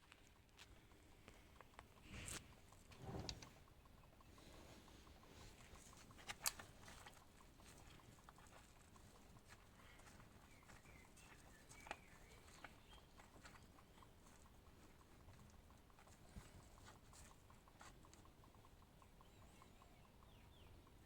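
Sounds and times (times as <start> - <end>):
faint clicks and ticks: 0.0 - 21.0.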